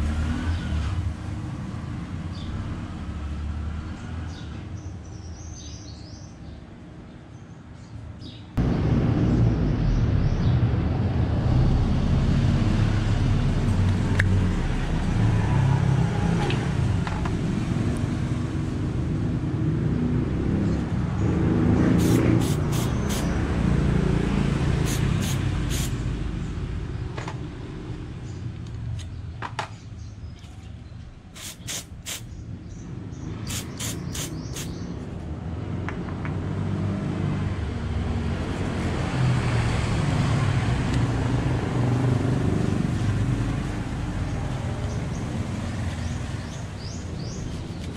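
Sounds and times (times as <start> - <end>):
motor vehicle rumble: 8.6 - 47.9.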